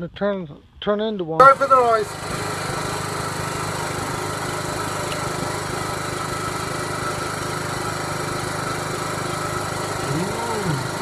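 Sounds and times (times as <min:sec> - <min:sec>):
small engine running: 0:01.4 - 0:11.0.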